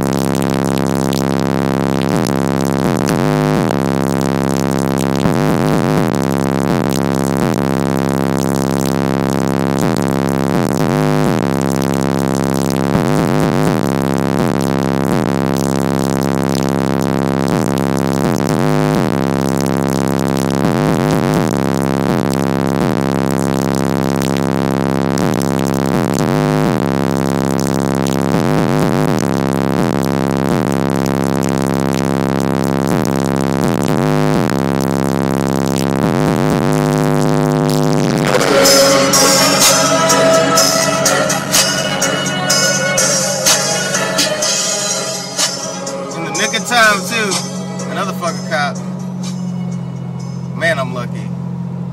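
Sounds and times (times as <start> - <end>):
loud bass-heavy music: 0.0 - 51.6.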